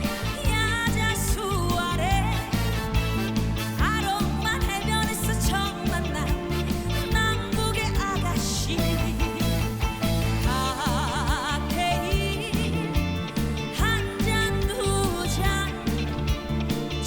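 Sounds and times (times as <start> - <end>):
band playing trot music: 0.0 - 17.0.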